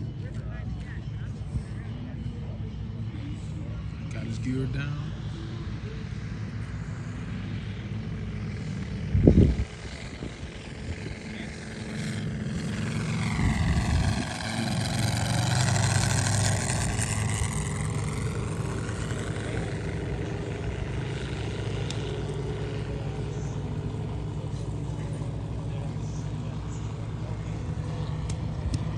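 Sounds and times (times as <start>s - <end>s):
model airplane engine passing: 0.0s - 28.9s.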